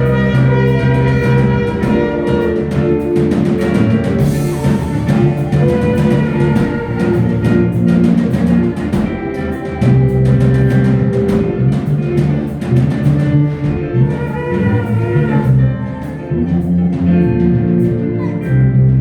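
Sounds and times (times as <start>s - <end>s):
bass guitar: 0.0s - 19.0s
drum kit driving beat: 0.0s - 19.0s
electric guitar: 0.0s - 19.0s.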